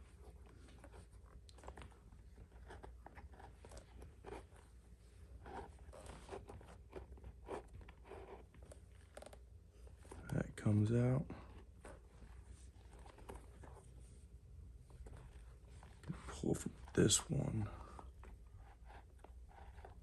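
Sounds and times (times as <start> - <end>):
leather lace scraping and crackling: 0.0 - 10.3, 11.4 - 14.0, 14.8 - 17.0, 17.9 - 20.0.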